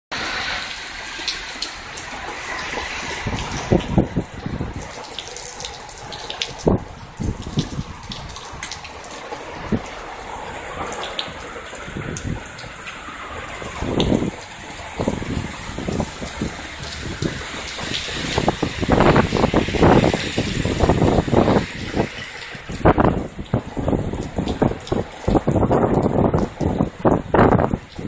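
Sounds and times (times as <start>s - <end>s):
heavy rain pouring on street: 0.1s - 28.0s.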